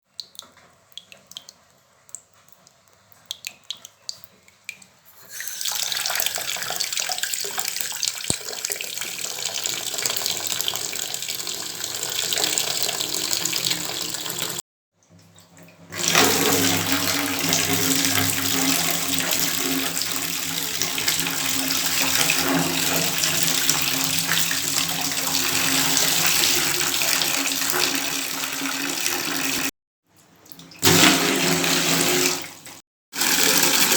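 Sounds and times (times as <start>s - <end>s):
water dripping: 0.0s - 30.9s
tap water running: 4.5s - 14.6s, 15.9s - 29.7s, 30.6s - 33.9s.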